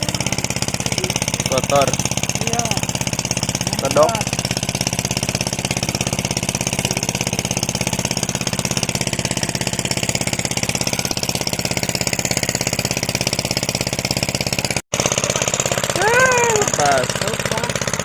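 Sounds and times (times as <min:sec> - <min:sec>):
small engine idling: 0:00.0 - 0:18.0.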